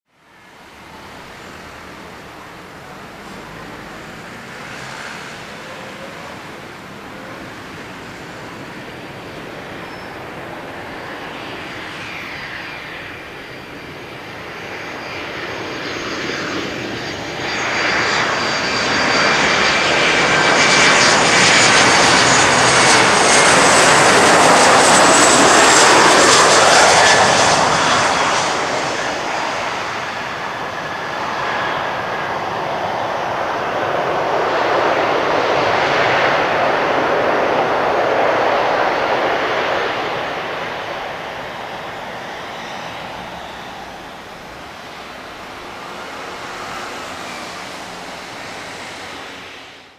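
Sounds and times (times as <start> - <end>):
jet engines whining: 0.3 - 49.9
reverse thrust engine roar: 0.8 - 49.9.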